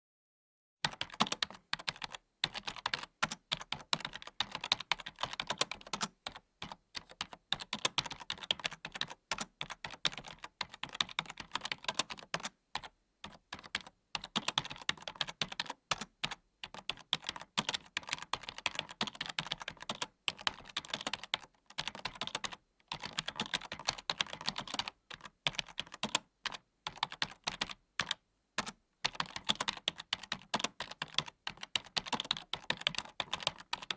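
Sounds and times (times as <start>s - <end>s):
typing on computer keyboard: 0.8s - 33.9s.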